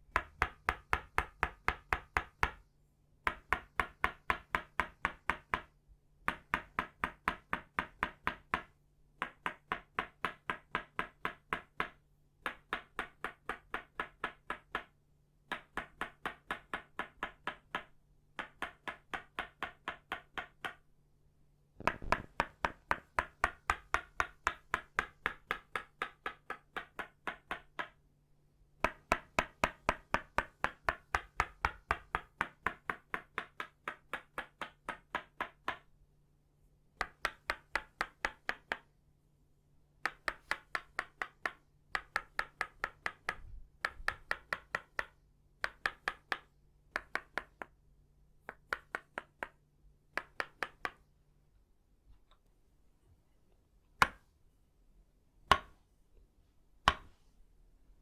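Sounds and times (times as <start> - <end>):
wooden mallet tapping wood: 0.0 - 2.6, 3.2 - 20.9, 21.8 - 28.0, 28.8 - 35.9, 37.0 - 38.9, 40.0 - 47.8, 48.4 - 51.1, 54.0 - 54.3, 55.5 - 55.8, 56.8 - 57.2.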